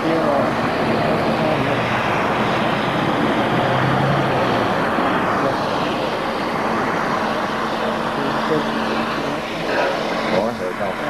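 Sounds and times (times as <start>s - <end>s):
faint hum: 0.0s - 11.0s
gas torch flame hissing: 0.0s - 11.0s.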